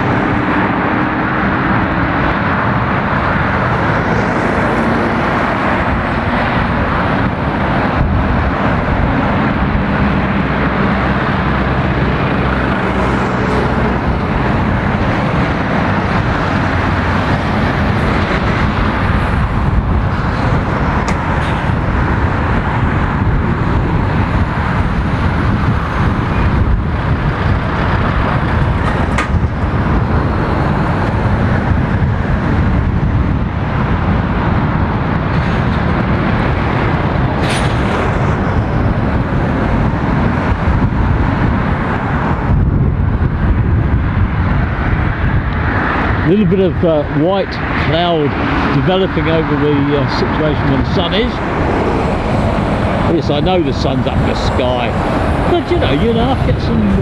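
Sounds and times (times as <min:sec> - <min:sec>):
diesel engines and tyre noise: 0:00.0 - 0:57.0.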